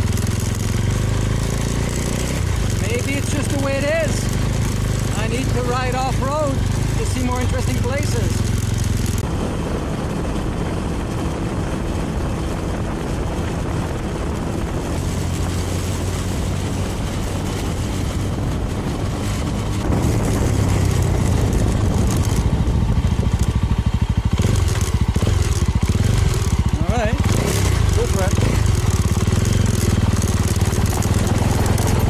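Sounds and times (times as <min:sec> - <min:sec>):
motorcycle engine running: 0:00.0 - 0:32.0
road noise: 0:00.0 - 0:32.0
wind: 0:00.0 - 0:32.0.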